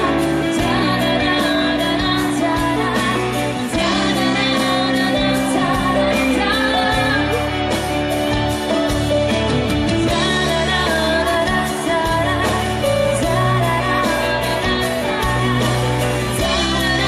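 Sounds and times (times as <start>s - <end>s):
woman singing: 0.0s - 8.0s, 10.0s - 17.0s
bass notes: 0.0s - 17.0s
drums and cymbals beat: 0.0s - 17.0s
pop-rock band: 0.0s - 17.0s.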